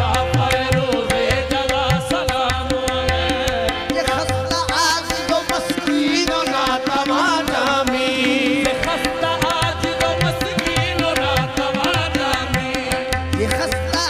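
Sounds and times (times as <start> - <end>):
harmonium notes: 0.0 - 14.0
man singing: 0.0 - 14.0
tabla strokes: 0.0 - 14.0.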